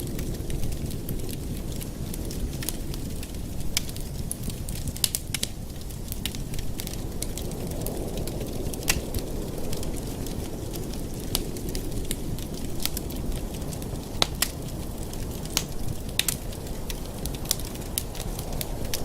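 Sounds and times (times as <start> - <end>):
fire crackles and pops: 0.0 - 19.0
fire flames rumbling: 0.0 - 19.0.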